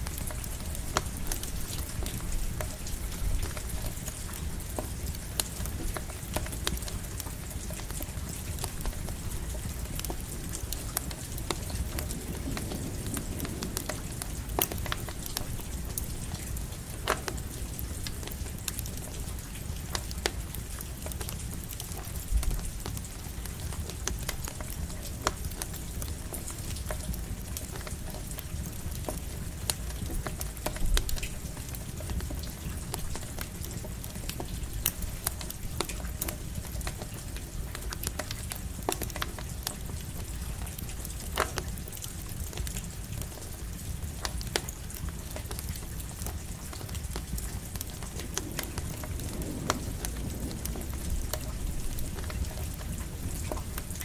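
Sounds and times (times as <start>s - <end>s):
campfire crackling: 0.0s - 54.0s
light rain hiss: 0.0s - 54.0s.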